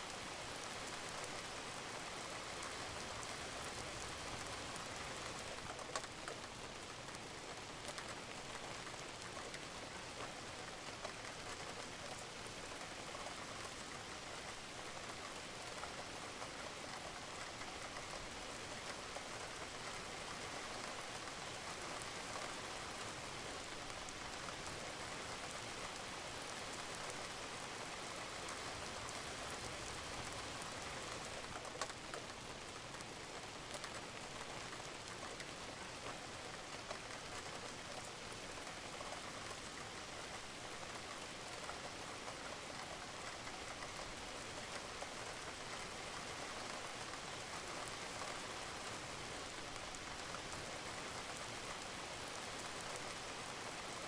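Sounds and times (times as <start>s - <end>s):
rain falling on a roof: 0.0s - 54.0s
raindrops ticking: 2.6s - 53.3s.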